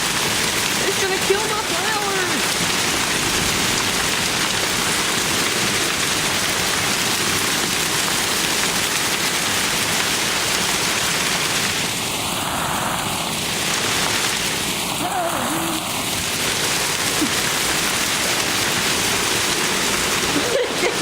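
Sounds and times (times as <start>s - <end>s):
heavy hail and rain: 0.0s - 21.0s.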